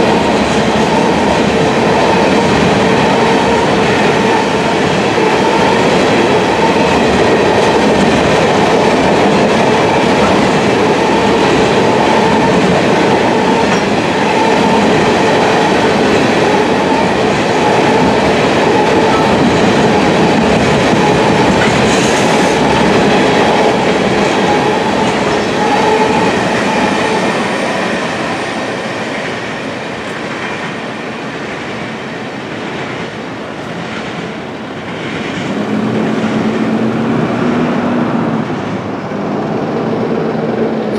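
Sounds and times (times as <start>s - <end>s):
train wheels rolling over rails: 0.0s - 40.9s.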